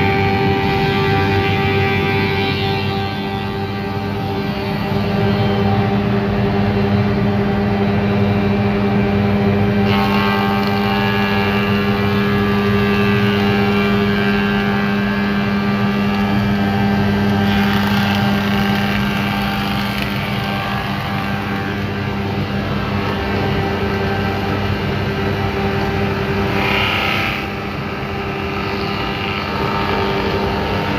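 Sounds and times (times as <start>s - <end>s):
planer machine hum: 0.0s - 30.9s
wood fed through cutters: 0.0s - 30.9s.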